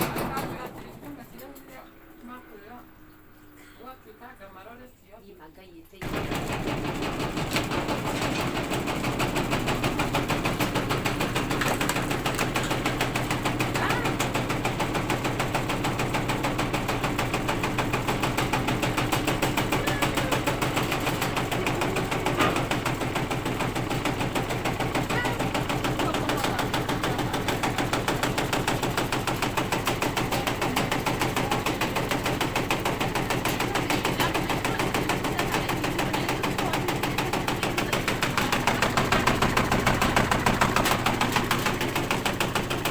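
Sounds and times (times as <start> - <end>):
washing machine drum rattling: 0.0 - 2.2, 6.0 - 42.9
washing machine motor hum: 0.0 - 5.3, 5.9 - 42.9.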